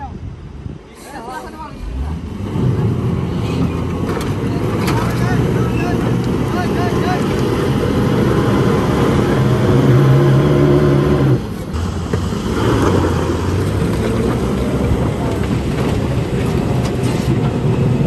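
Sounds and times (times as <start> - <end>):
truck diesel engine revving: 1.7 - 18.0.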